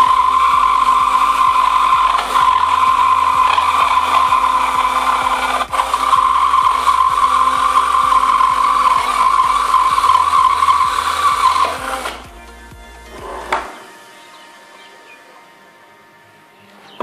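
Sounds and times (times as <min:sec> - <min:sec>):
drill saw blade cutting wood: 0:00.0 - 0:17.0.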